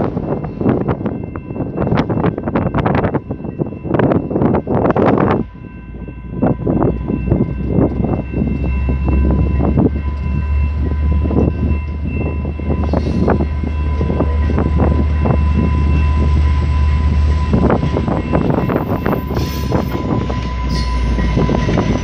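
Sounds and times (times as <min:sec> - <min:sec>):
diesel train rumble: 0:00.0 - 0:22.0
wind buffeting microphone: 0:00.0 - 0:22.0.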